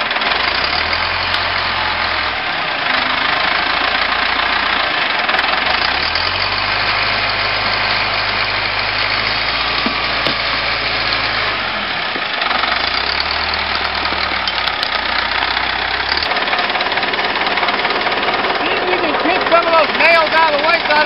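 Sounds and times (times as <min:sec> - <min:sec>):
wheel loader engine running: 0:00.0 - 0:21.0.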